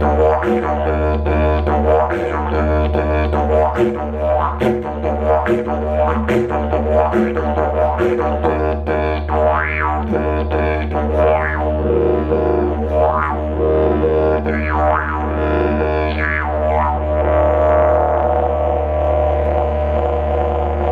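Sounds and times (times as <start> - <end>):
didgeridoo droning: 0.0 - 20.9.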